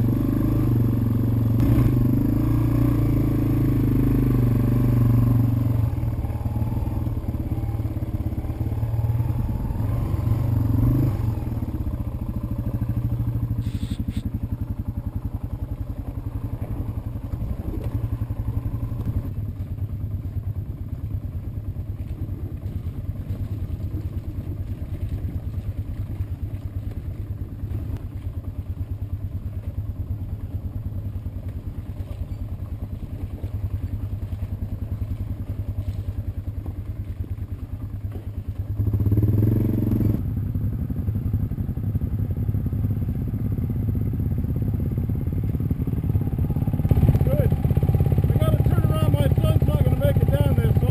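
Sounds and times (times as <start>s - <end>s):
vehicle engine running and revving: 0.0s - 50.9s.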